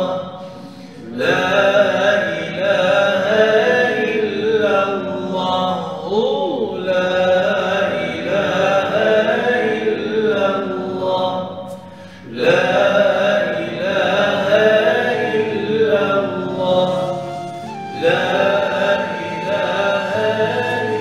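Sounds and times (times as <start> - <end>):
man chanting a recitation: 0.0 - 21.0.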